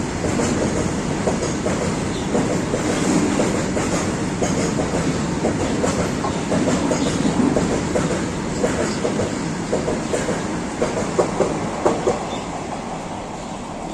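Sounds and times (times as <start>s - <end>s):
freight train rumble: 0.0s - 13.9s
wheels clacking over rail joints: 0.2s - 12.6s.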